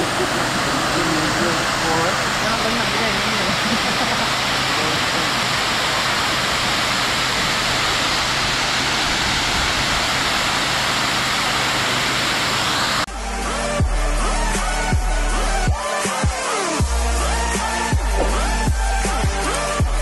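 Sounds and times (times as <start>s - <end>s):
waterfall rushing: 0.0s - 13.1s, 15.5s - 20.0s.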